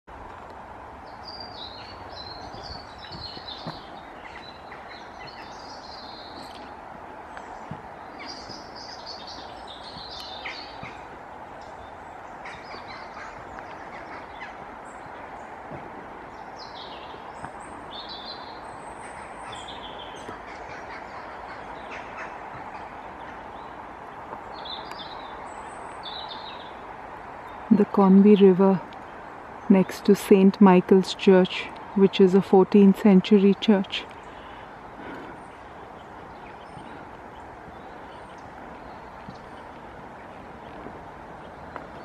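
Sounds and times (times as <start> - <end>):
songbirds chirping: 0.1 - 42.0.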